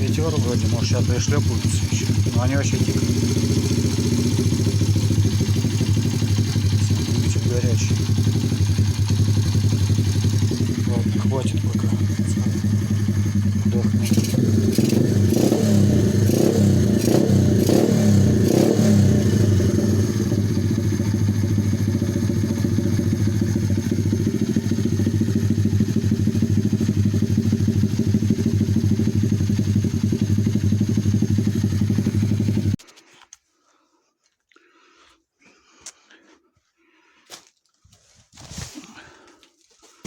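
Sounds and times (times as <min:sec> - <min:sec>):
motorcycle engine revving and idling: 0:00.0 - 0:32.8.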